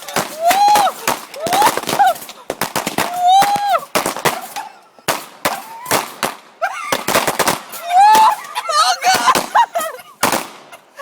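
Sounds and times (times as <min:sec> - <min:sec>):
rising whistling fireworks: 0:00.0 - 0:10.8
fireworks bangs and crackling: 0:00.0 - 0:11.0.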